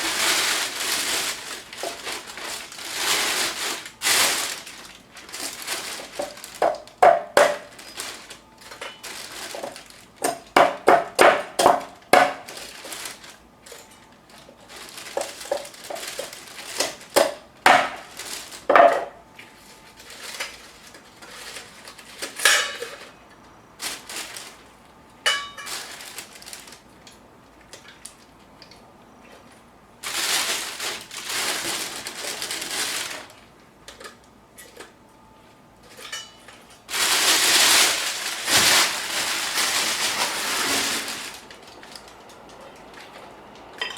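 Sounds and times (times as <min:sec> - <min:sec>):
rustling and crunching: 0:00.0 - 0:43.9.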